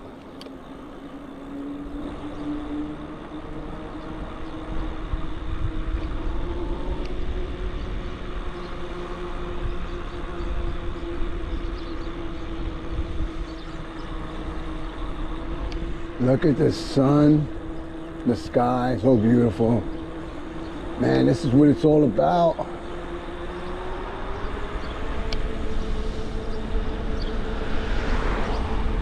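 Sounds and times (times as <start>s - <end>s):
wind rumbling on microphone: 0.0s - 22.2s, 22.8s - 29.0s
electric bike motor hum: 0.0s - 29.0s.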